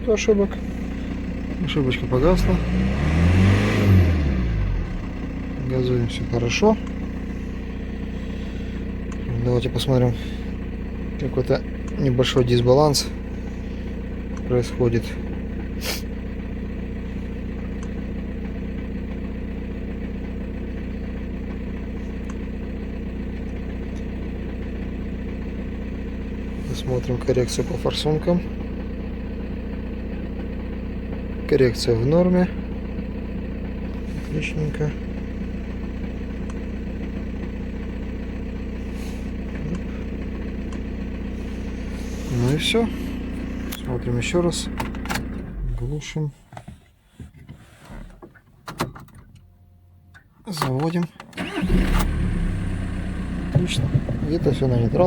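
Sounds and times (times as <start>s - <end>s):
diesel engine idling: 0.0s - 46.4s, 51.4s - 55.0s.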